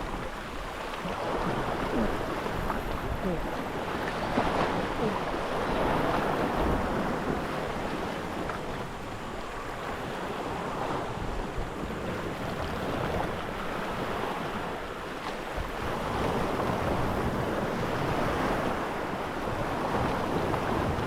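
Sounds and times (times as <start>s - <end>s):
sea water washing around boat: 0.0s - 21.0s
wind rumbling on microphone: 0.0s - 21.0s.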